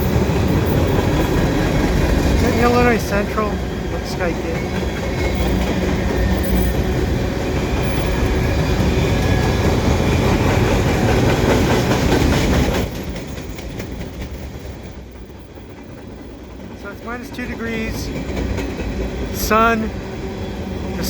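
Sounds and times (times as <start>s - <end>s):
train wheels clattering over rails: 0.0s - 21.0s.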